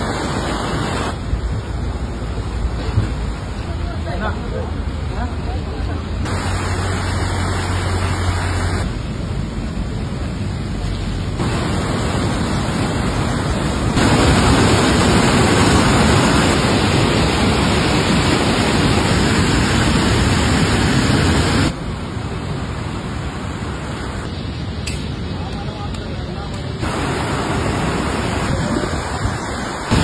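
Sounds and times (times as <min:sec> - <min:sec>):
river rushing: 0:00.0 - 0:24.9, 0:26.7 - 0:30.0
outdoor noise: 0:00.0 - 0:30.0.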